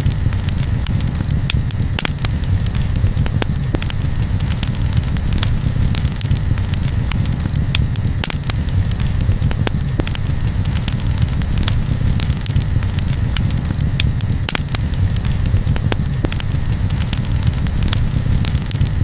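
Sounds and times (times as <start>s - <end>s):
campfire crackling: 0.0s - 19.0s
low rumble: 0.0s - 19.0s.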